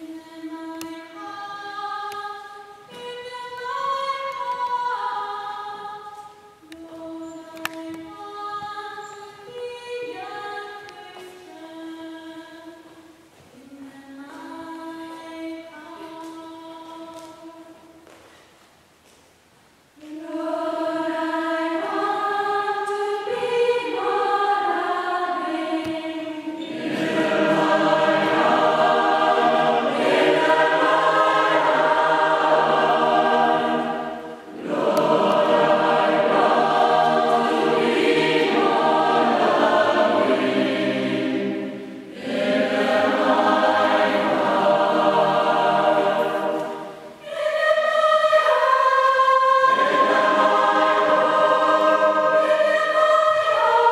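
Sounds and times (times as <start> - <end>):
mixed choir singing: 0.0 - 12.8, 20.0 - 53.9.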